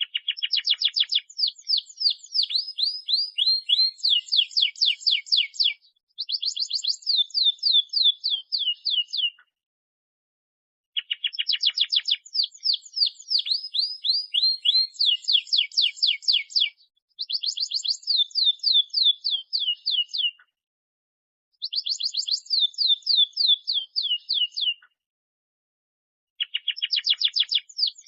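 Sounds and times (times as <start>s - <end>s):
canary singing trills: 0.0s - 9.4s, 11.0s - 20.5s, 21.6s - 24.9s, 26.4s - 28.0s.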